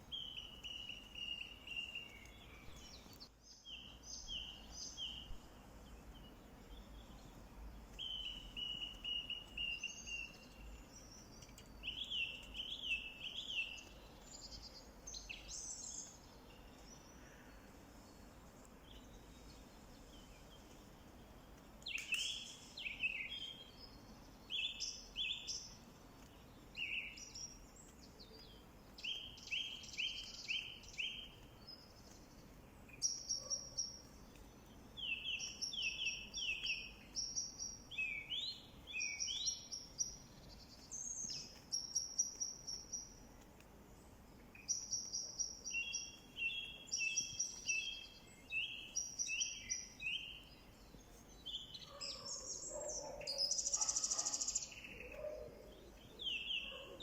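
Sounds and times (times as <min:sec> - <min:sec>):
faint background hiss: 0:00.0 - 0:57.0
songbirds chirping: 0:00.0 - 0:57.0.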